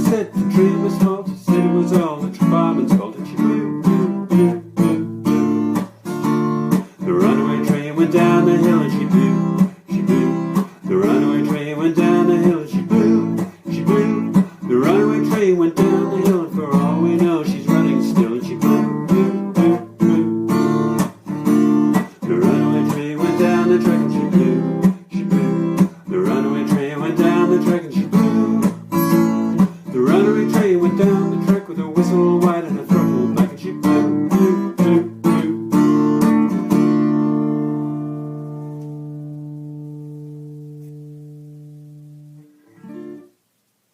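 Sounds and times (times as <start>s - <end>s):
acoustic guitar strumming: 0.0s - 43.5s.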